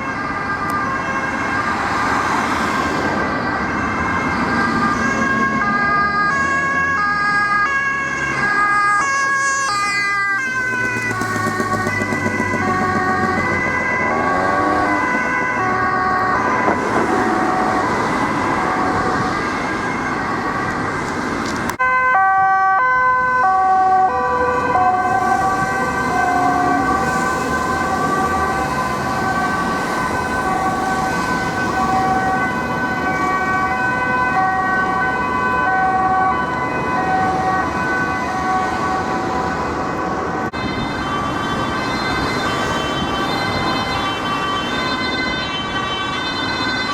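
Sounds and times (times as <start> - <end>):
two-tone police siren: 0.0 - 46.9
vehicle and road noise: 0.0 - 46.9.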